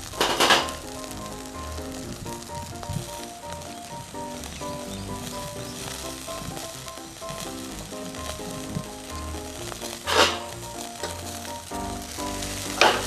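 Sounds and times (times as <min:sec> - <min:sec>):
background music: 0:00.0 - 0:13.0
food sizzling on a grill: 0:00.0 - 0:13.0.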